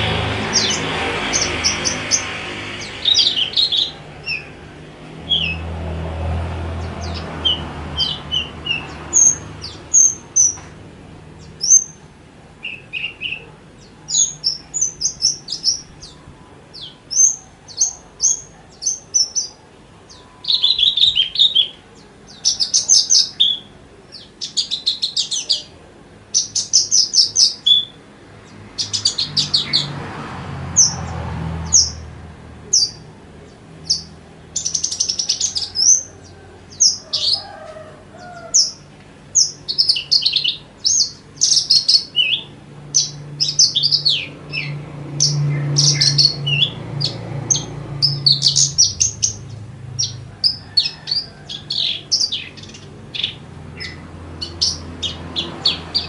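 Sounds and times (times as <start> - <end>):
lark singing chirps and trills: 0.0 - 5.7, 6.7 - 10.7, 11.4 - 30.0, 30.8 - 37.6, 38.2 - 56.0.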